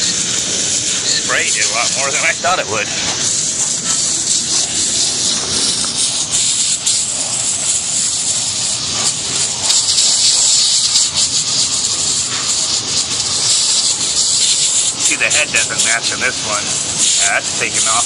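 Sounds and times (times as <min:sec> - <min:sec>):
water jet spraying on metal: 0:00.0 - 0:18.0.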